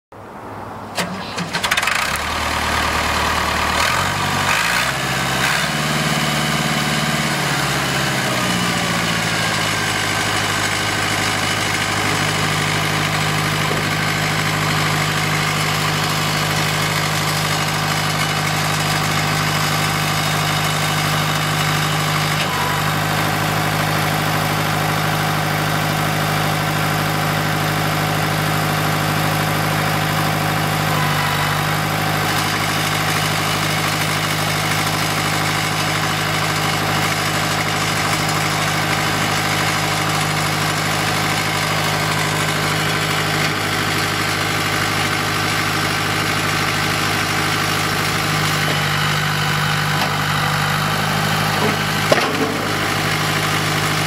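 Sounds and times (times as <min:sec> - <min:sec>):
tractor diesel engine running: 0:00.9 - 0:54.0.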